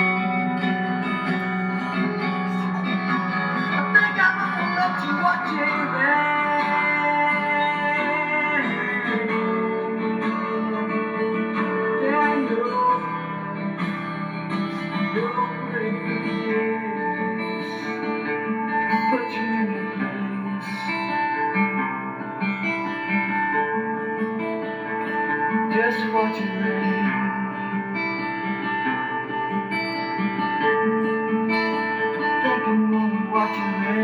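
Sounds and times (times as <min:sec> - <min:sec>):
guitar solo with pitch bends: 0:00.0 - 0:34.0.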